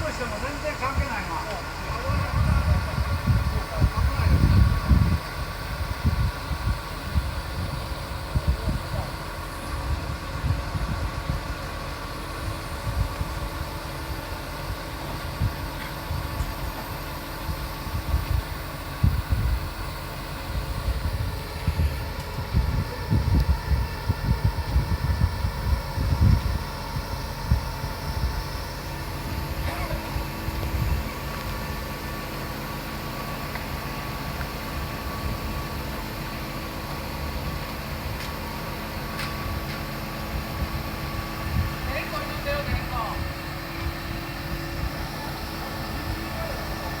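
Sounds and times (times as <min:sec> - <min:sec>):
steady mechanical hum: 0:00.0 - 0:47.0
wind buffeting microphone: 0:00.0 - 0:47.0.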